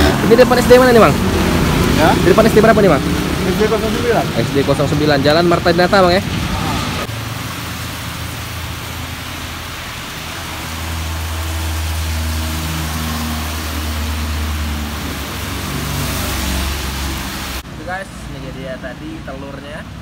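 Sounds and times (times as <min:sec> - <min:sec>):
rain hissing on wet street: 0:00.0 - 0:20.0.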